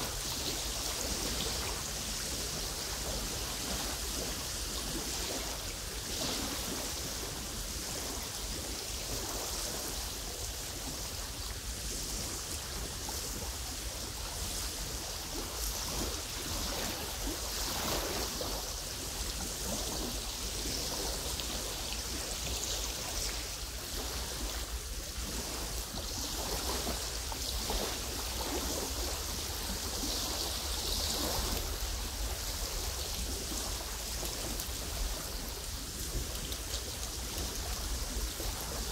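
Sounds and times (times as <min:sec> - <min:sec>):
low rumble of wind: 0:00.0 - 0:38.9
waves lapping on pebbly shore: 0:00.0 - 0:38.9.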